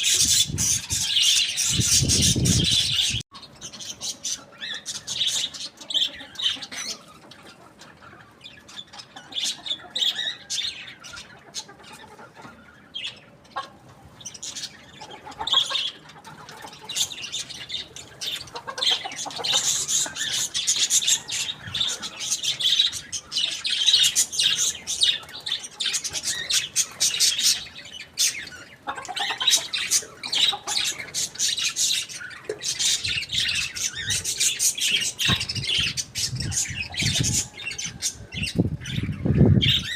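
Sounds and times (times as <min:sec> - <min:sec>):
chickens chirping and squawking: 0:00.0 - 0:39.9.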